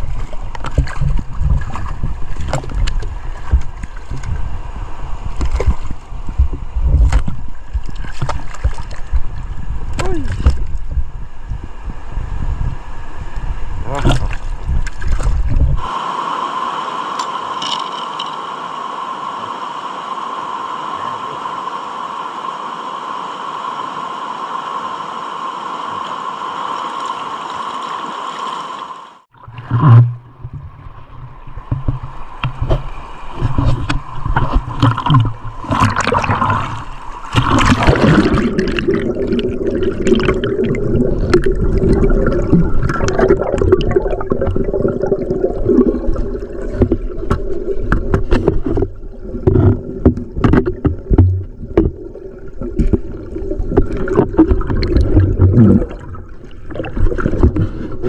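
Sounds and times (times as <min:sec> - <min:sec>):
water gurgling and rushing: 0:00.0 - 0:58.0.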